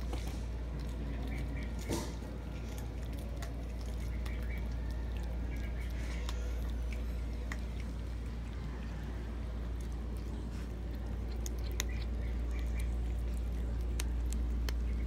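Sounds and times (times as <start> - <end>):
cats chewing food: 0.0 - 15.0
steady low hum: 0.0 - 15.0.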